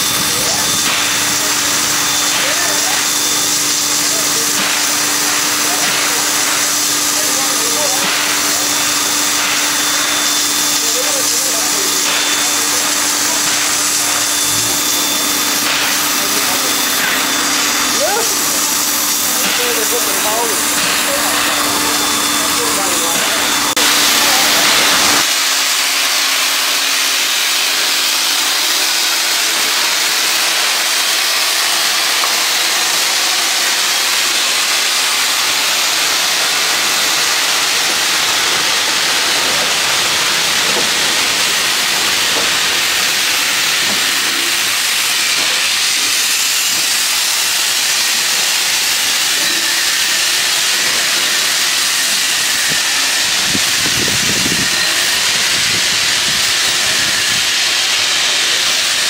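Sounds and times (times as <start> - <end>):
steam locomotive hissing: 0.0 - 59.0.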